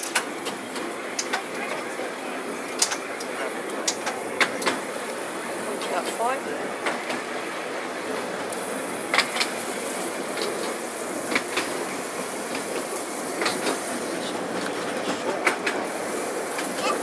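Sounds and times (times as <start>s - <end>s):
wheels clicking over rail joints: 0.0s - 7.3s, 8.4s - 17.0s
tram rolling rumble: 0.0s - 17.0s.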